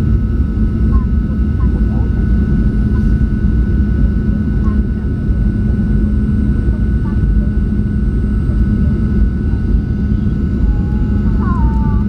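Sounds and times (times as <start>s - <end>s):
jet engine and airflow rumble: 0.0s - 12.0s
thin steady whine: 0.0s - 12.0s.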